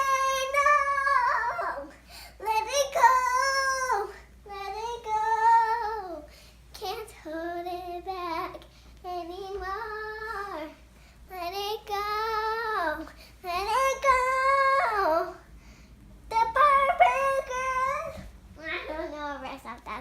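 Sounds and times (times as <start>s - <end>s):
child singing wordlessly: 0.0s - 15.4s, 16.3s - 20.0s.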